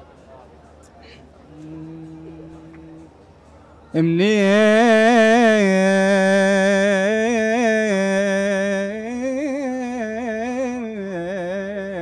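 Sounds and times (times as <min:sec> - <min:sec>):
man singing unaccompanied: 0:01.5 - 0:03.1, 0:03.9 - 0:12.0.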